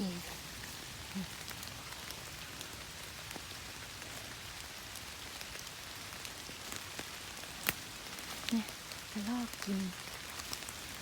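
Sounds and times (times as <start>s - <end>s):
rain falling on forest: 0.0s - 11.0s
raindrop ticks: 0.0s - 11.0s.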